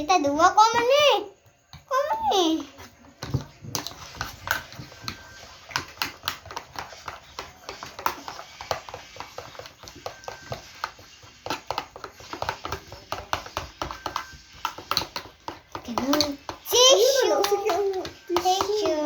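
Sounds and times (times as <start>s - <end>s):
utensil tapping mixing bowl: 0.0s - 19.0s.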